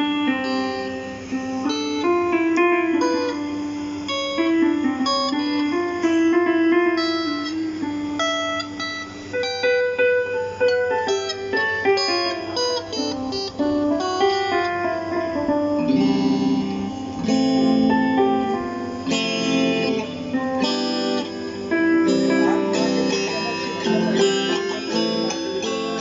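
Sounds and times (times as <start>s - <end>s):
plucked guitar-like melody: 0.0s - 26.0s.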